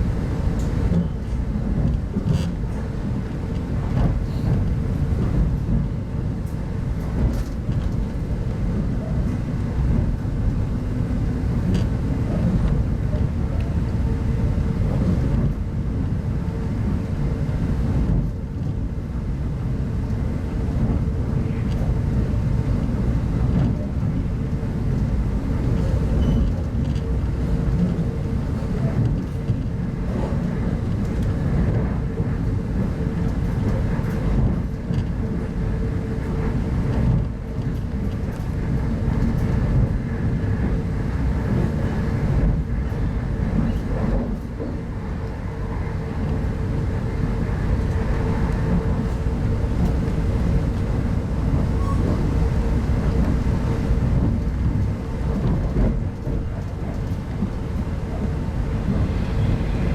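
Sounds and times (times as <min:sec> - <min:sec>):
train coach rumbling on track: 0:00.0 - 0:59.9.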